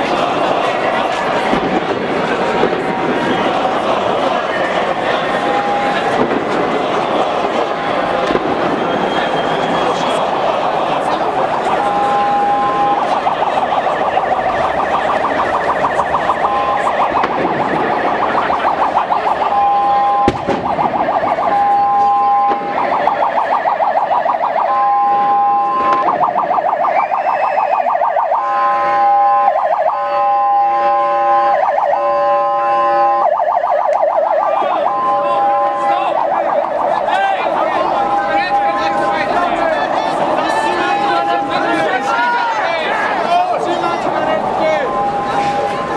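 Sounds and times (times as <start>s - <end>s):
crowd murmuring: 0.0s - 45.9s
emergency vehicle siren: 0.0s - 45.9s
second siren: 0.0s - 45.9s.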